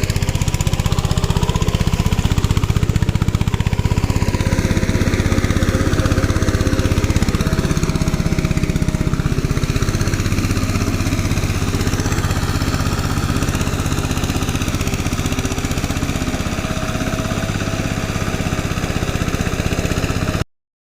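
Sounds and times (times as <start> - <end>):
engine running steadily: 0.0 - 20.4.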